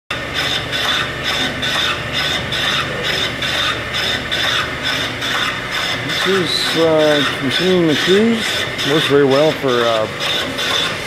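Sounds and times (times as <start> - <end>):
cutter rasping on brake linings: 0.1 - 11.0
low motor hum: 0.1 - 11.0.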